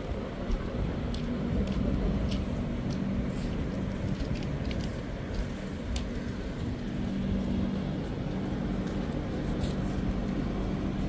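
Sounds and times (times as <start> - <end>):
train rolling along track: 0.0 - 11.0.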